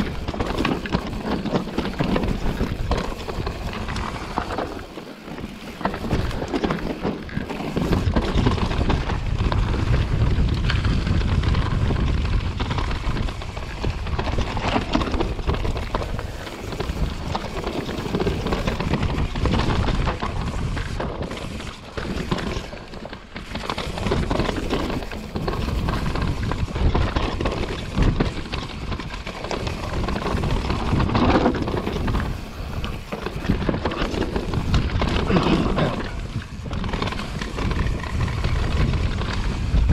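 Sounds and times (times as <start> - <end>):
bike knocking and clattering: 0.0 - 39.9
tyres crunching over stones: 0.0 - 39.9
wind buffeting microphone: 5.7 - 22.7, 23.9 - 39.9.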